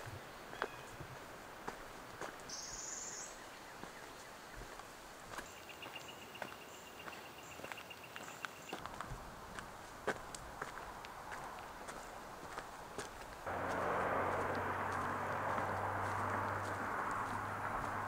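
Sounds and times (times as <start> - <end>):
footsteps on a trail: 0.5 - 18.0.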